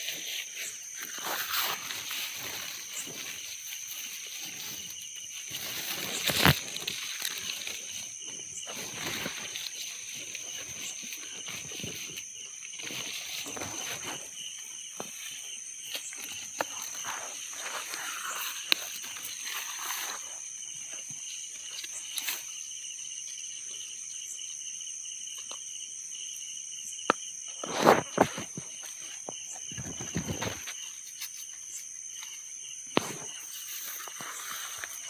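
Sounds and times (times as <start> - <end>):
rustling: 0.0 - 22.6, 27.6 - 35.0
high-pitched insect chorus: 0.0 - 35.0.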